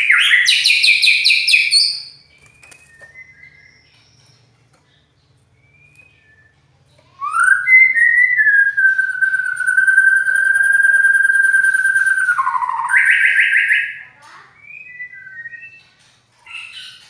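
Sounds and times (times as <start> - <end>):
bird singing whistle: 0.0 - 4.5, 5.6 - 15.9.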